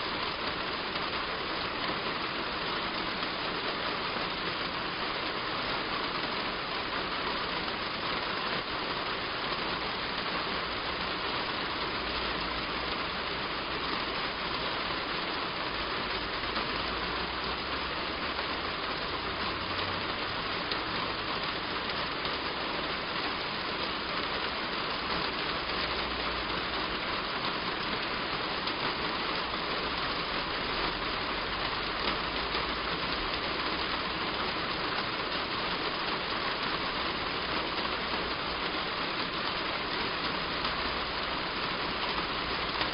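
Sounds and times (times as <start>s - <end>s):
heavy rain on a roof: 0.0s - 42.9s.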